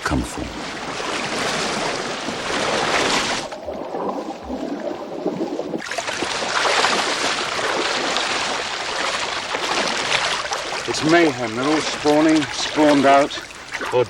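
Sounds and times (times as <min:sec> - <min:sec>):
river water rushing: 0:00.0 - 0:04.4, 0:05.8 - 0:14.0.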